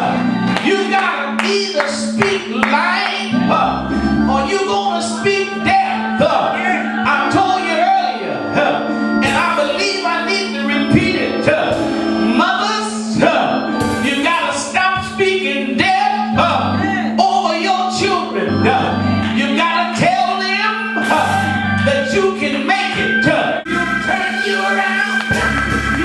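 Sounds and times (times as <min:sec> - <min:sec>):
gospel singing: 0:00.0 - 0:26.0
instrumental backing with beat: 0:00.0 - 0:26.0.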